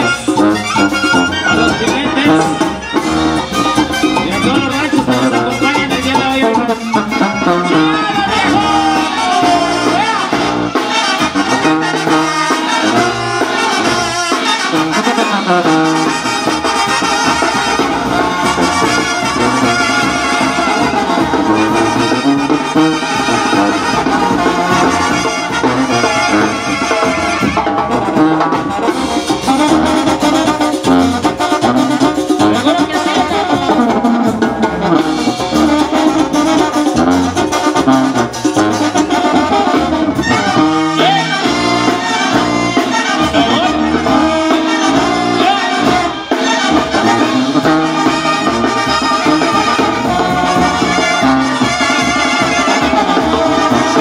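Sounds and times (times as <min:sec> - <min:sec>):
brass band playing: 0:00.0 - 0:54.0
drums: 0:00.0 - 0:54.0
trumpets and trombones: 0:00.0 - 0:54.0.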